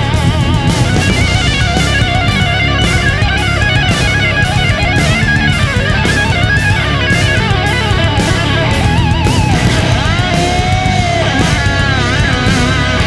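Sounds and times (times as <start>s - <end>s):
electric guitar: 0.0s - 13.0s
steady drum beat: 0.0s - 13.0s.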